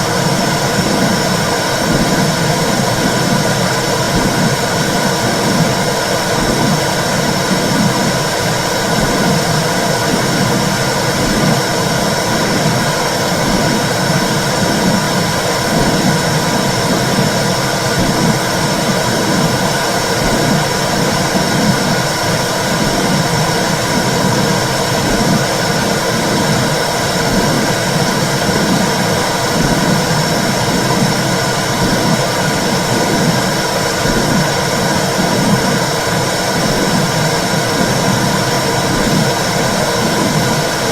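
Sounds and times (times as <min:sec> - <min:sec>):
rhythmic heartbeat pulse: 0:00.0 - 0:40.9.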